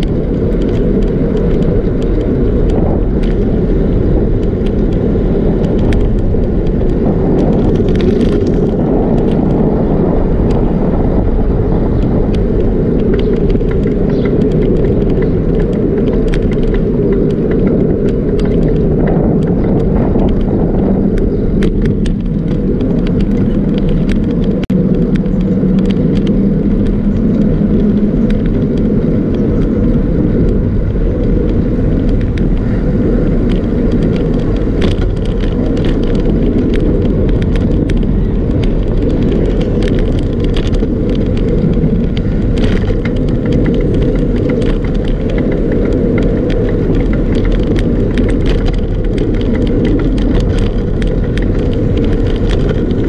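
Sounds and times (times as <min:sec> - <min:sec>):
bicycle tyre rumble on pavement: 0:00.0 - 0:53.0
small clicks and rattles: 0:00.0 - 0:53.0.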